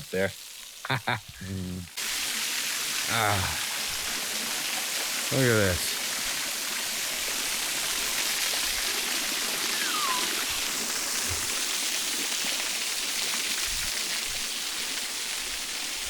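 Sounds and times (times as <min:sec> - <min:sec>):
waterfall pouring: 0:00.0 - 0:16.0.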